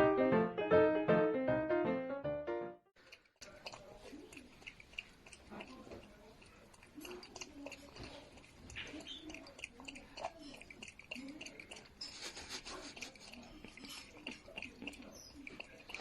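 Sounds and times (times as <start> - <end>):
pet chewing with clicks: 3.0 - 16.0.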